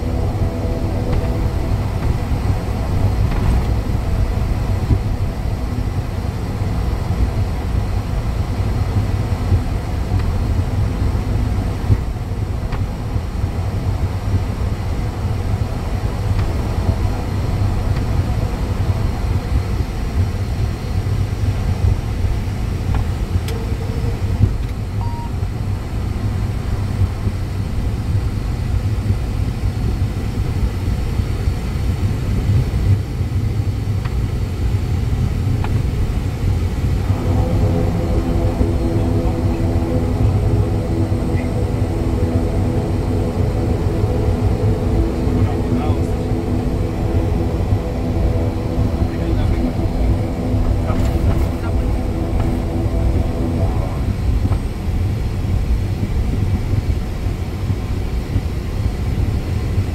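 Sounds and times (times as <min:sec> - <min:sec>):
turboprop engines running: 0:00.0 - 0:59.9.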